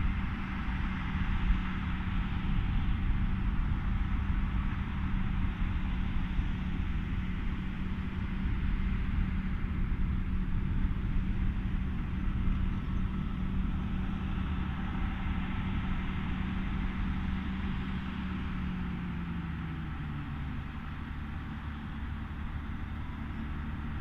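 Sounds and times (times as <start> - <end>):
harvester machinery humming: 0.0 - 24.0
tractor engine running: 0.0 - 24.0.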